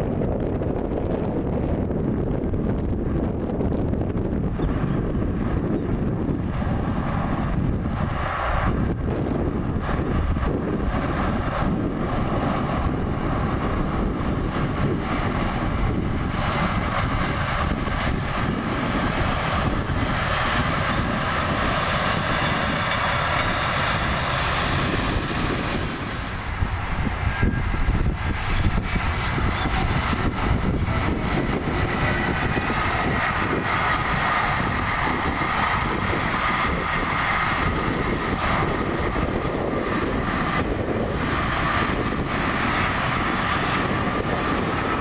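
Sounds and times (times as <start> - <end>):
steady whine: 0.0 - 45.0
train rumbling past: 0.0 - 45.0.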